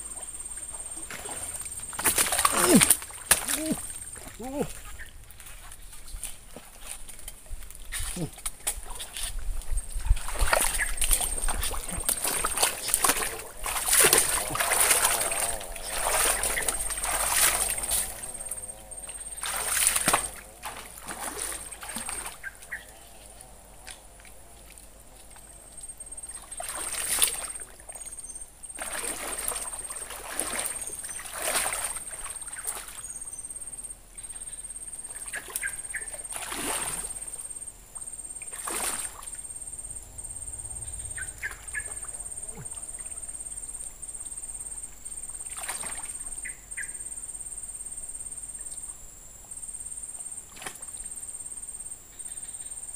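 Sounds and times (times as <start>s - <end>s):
water splashing and sloshing: 0.0s - 33.4s, 34.9s - 46.6s, 50.4s - 51.2s.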